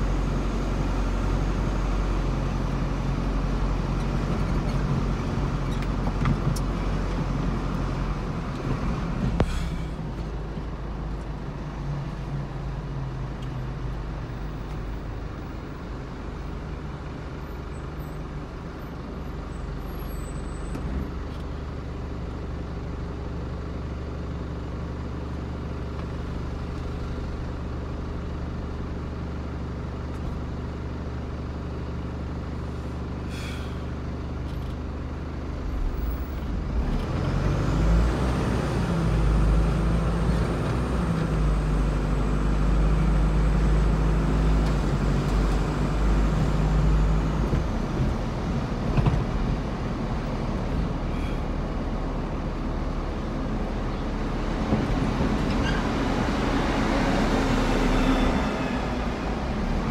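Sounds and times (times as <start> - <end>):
low engine hum: 0.0 - 59.9
road and tyre noise: 0.0 - 59.9.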